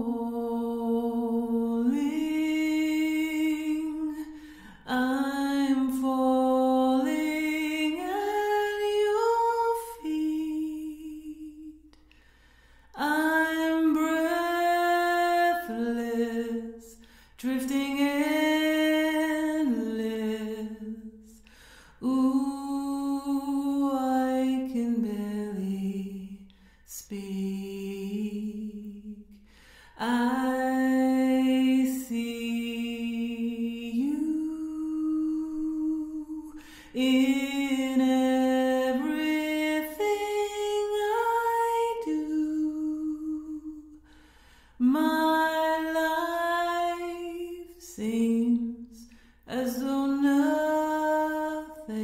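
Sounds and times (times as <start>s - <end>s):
woman singing unaccompanied: 0.0s - 11.8s, 13.0s - 21.3s, 22.0s - 29.2s, 30.0s - 44.0s, 44.8s - 52.0s.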